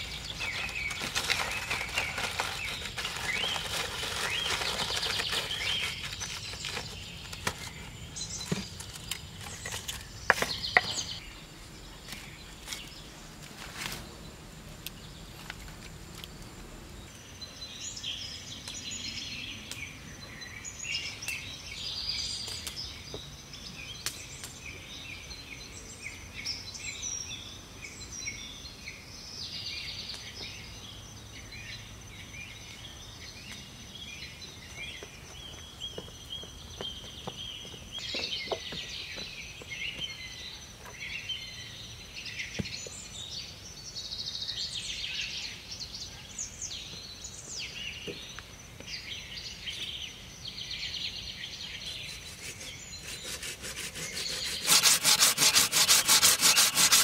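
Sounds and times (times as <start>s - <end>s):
wild birds singing and chirping: 0.0s - 57.0s.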